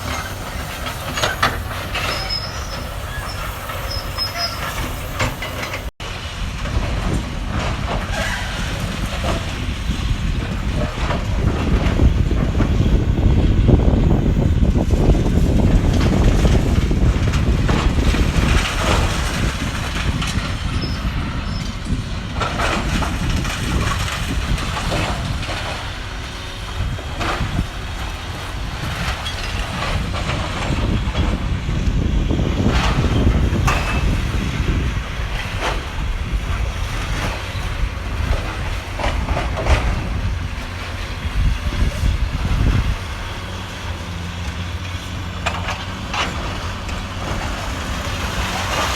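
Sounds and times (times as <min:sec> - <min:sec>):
demolition knocks and crunches: 0:00.0 - 0:48.9
excavator diesel engine rumbling: 0:00.0 - 0:48.9.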